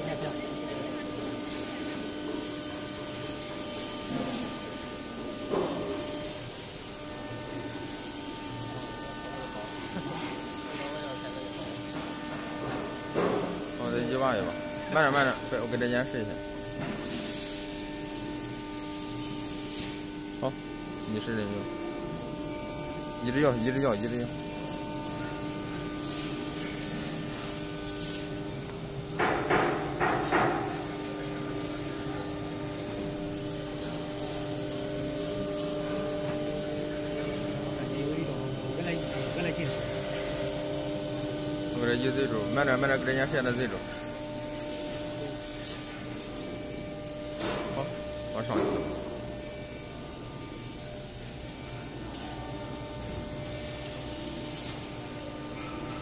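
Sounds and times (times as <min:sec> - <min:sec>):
cnc router axis drives hissing: 0:00.0 - 0:30.8, 0:31.8 - 0:53.0.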